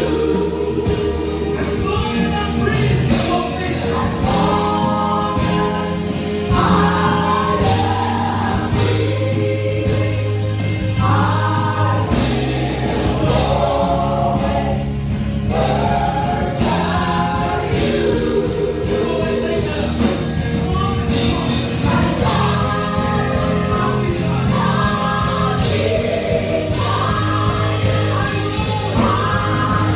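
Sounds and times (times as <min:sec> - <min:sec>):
band playing: 0:00.0 - 0:29.9
group singing gospel song: 0:00.0 - 0:29.9
steady drum beat: 0:00.0 - 0:29.9.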